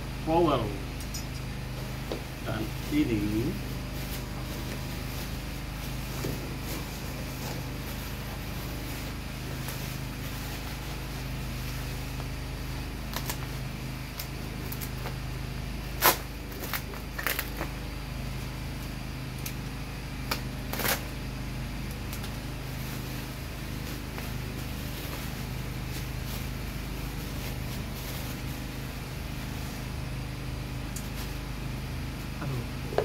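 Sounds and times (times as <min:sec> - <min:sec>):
generator humming: 0:00.0 - 0:33.0.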